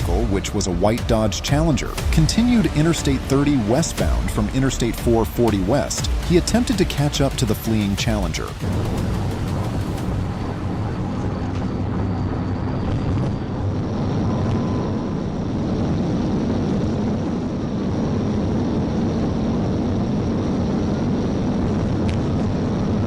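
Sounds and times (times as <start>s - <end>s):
wind noise: 0.0s - 23.0s.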